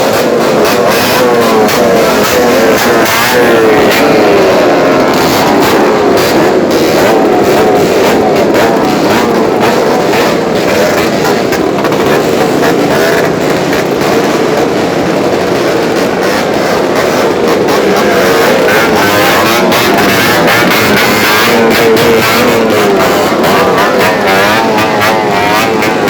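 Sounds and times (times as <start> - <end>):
motorcycles revving: 0.0 - 26.0.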